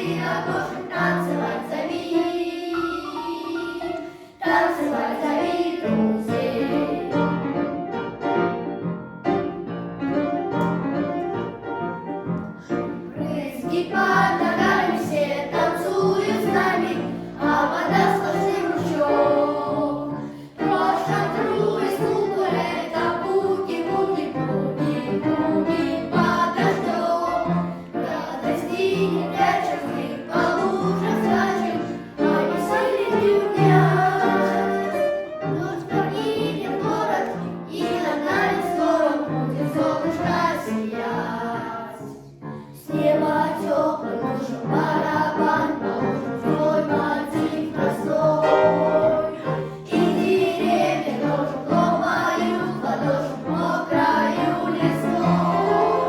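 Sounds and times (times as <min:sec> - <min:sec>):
boys singing boogie-woogie: 0:00.0 - 0:07.4, 0:13.1 - 0:42.2, 0:42.8 - 0:56.0.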